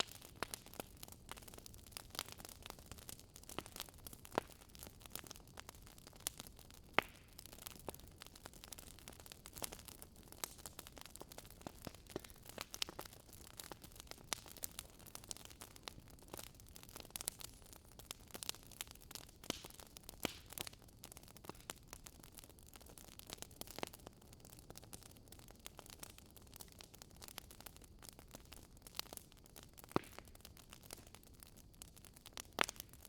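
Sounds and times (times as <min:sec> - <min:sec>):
faint steady hiss: 0:00.0 - 0:33.0
firewood crackling and popping: 0:00.0 - 0:33.0.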